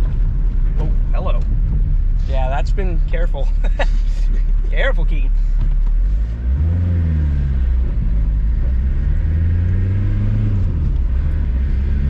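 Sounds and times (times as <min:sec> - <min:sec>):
diesel engine accelerating: 0:00.0 - 0:12.0.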